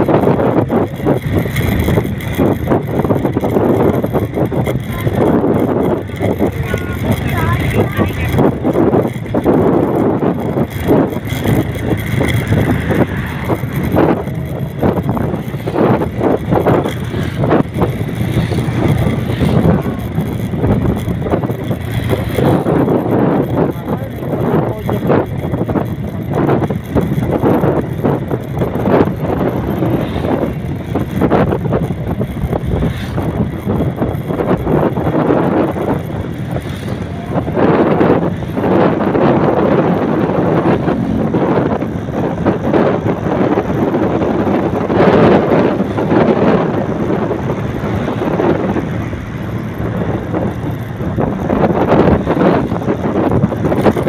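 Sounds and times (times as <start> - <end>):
vehicle road noise: 0.0 - 54.0
wind buffeting microphone: 0.0 - 54.0.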